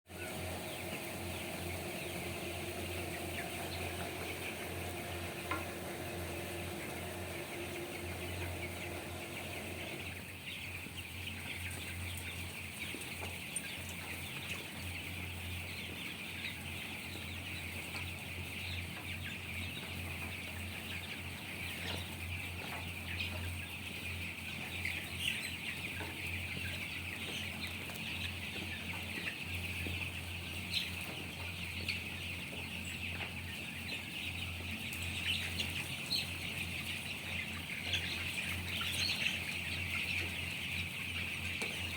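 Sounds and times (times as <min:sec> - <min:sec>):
chicks cheeping: 0:00.1 - 0:41.9.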